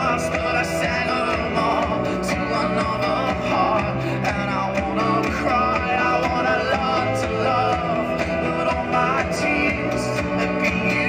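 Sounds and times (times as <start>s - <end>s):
song with singing through speaker: 0.0s - 11.0s.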